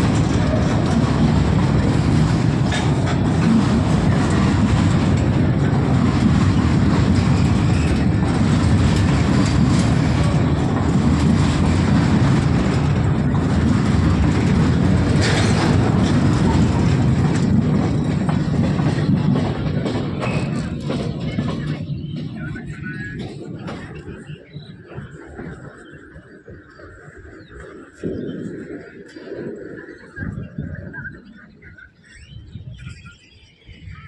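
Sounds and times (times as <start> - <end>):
wheels clacking over rail joints: 0.0 - 31.4
freight train wheels rumbling: 0.0 - 34.0.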